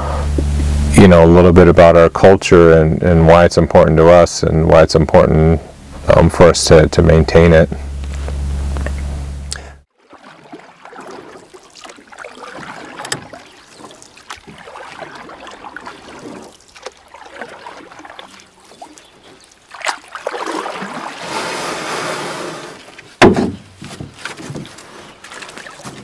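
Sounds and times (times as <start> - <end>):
water splashing and trickling: 4.1 - 26.0.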